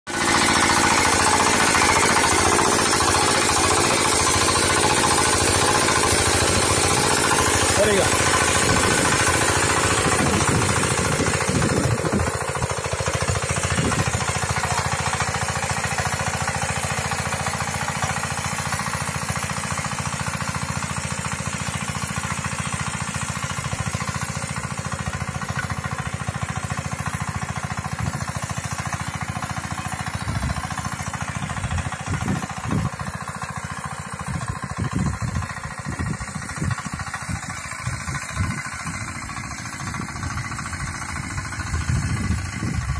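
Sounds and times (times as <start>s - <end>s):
rotovator engine knocking: 0.1s - 42.9s.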